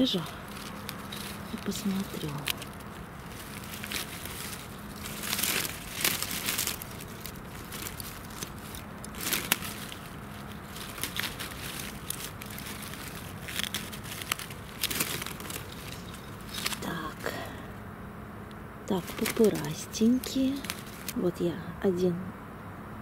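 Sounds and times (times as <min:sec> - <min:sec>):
rustling and crackling leaf litter: 0:00.0 - 0:17.8, 0:18.9 - 0:21.4.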